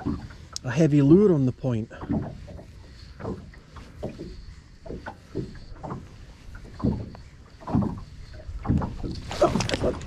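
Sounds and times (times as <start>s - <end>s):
waves slapping against boat hull: 0.0s - 10.0s.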